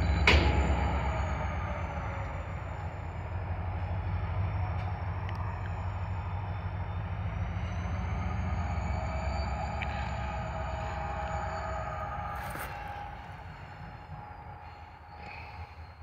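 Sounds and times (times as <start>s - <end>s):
diesel locomotives rumbling: 0.0s - 16.0s.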